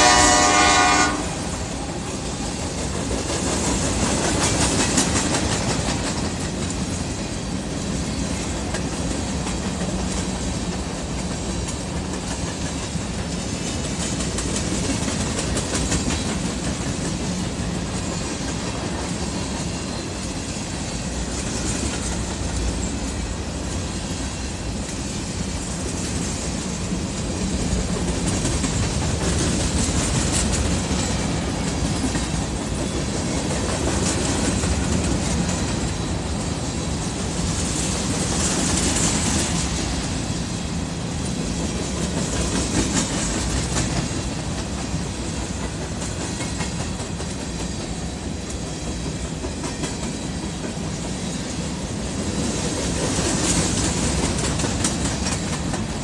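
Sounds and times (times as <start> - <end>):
freight train rumble: 0.0 - 56.0
train wheels clacking on rails: 0.0 - 56.0.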